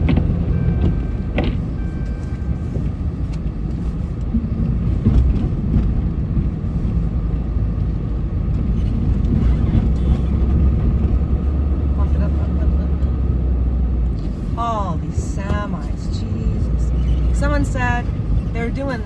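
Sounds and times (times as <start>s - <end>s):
motor vehicle engine rumble: 0.0s - 19.0s.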